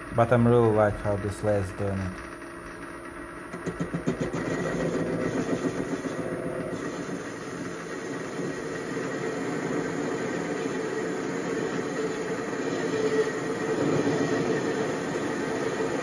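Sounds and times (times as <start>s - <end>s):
lathe motor humming: 2.1s - 16.0s.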